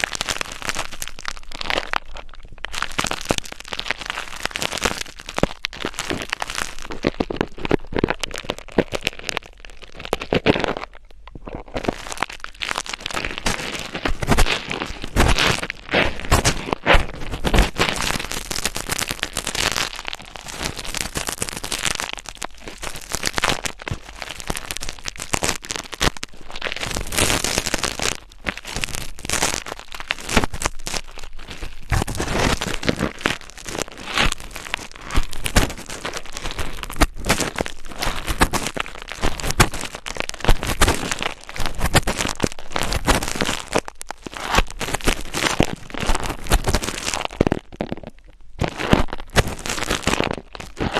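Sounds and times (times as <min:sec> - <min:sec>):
crackling and scratching on microphone: 0:00.0 - 0:50.9.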